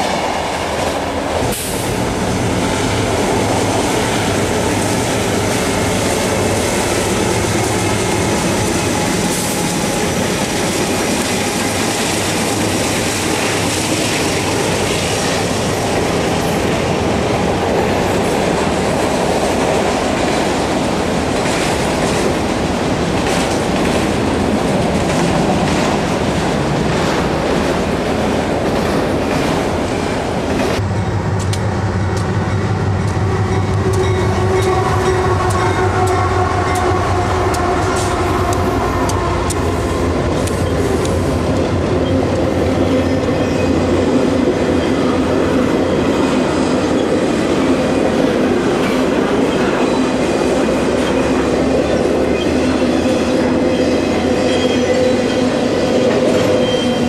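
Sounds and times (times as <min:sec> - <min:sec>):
diesel locomotive engine drone: 0:00.0 - 0:57.0
freight cars rumbling: 0:00.0 - 0:57.0.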